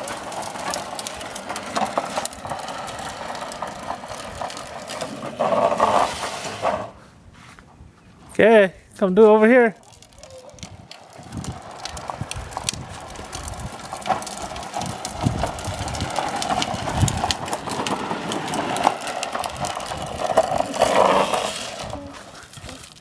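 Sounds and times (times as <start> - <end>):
bicycle rolling with rattles: 0.0 - 7.1, 9.1 - 23.0
bicycle skidding: 0.0 - 23.0.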